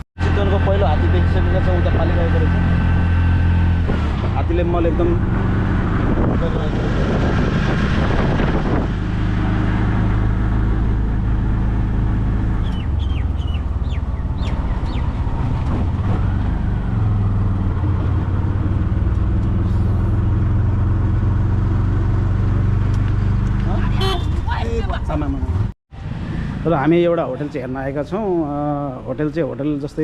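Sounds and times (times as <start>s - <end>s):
motor rickshaw engine droning: 0.2s - 7.9s, 9.0s - 29.1s.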